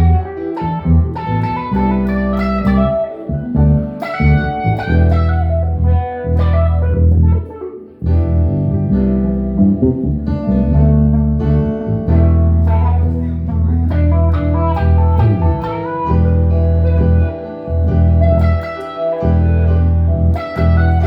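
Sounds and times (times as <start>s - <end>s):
deep sustained low notes: 0.0s - 21.0s
plucked guitar notes: 0.0s - 21.0s.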